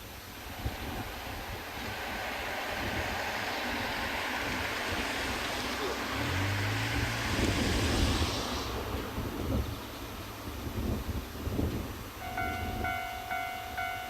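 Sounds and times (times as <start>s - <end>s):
train rushing past: 0.0s - 14.0s
low engine hum: 0.1s - 12.8s.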